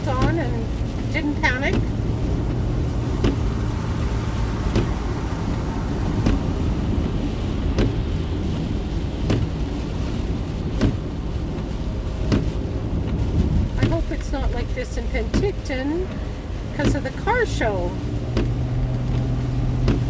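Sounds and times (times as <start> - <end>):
rain on a car: 0.0 - 20.0
road and tyre noise: 0.0 - 20.0
windshield wipers swishing: 0.0 - 20.0.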